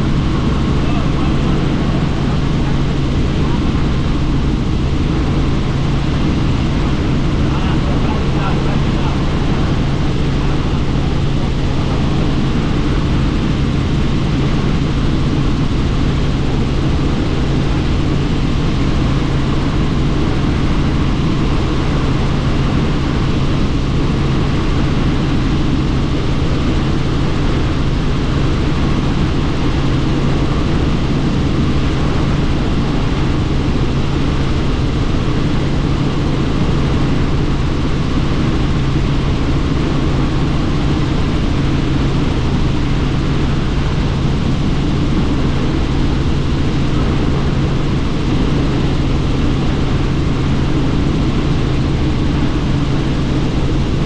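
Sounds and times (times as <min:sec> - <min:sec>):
helicopter rotor and engine drone: 0:00.0 - 0:54.0
rushing wind noise: 0:00.0 - 0:54.0.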